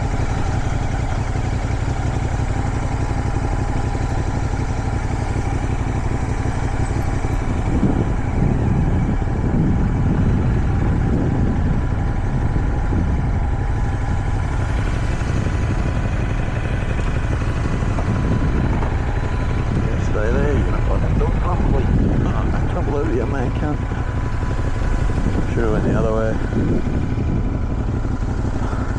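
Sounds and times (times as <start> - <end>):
motorcycle engine running: 0.0 - 28.9
wind rumble on microphone: 0.0 - 28.9.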